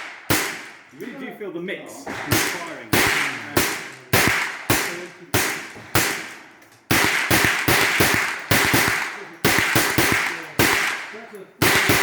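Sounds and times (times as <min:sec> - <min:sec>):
gunshots with echo: 0:00.0 - 0:00.9, 0:02.1 - 0:12.0.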